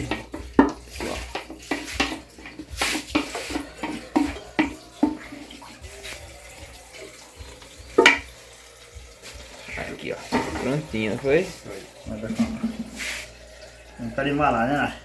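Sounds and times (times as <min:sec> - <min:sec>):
utensil knocking and scraping pot: 0:00.0 - 0:13.4
water rushing: 0:00.0 - 0:15.0.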